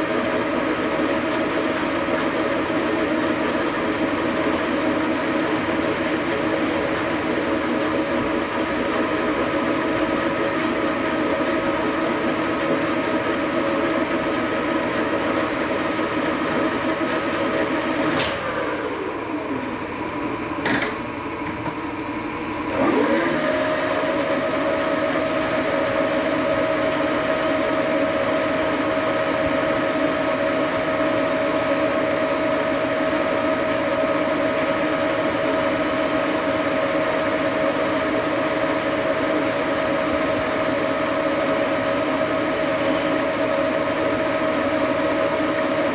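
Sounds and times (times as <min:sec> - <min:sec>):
lathe machine whine: 0:00.0 - 0:45.9.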